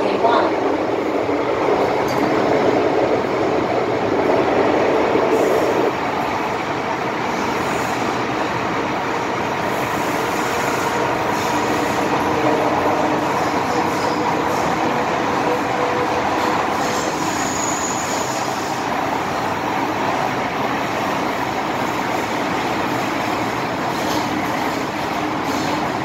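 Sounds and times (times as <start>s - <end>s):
train rumbling onboard: 0.0s - 26.0s.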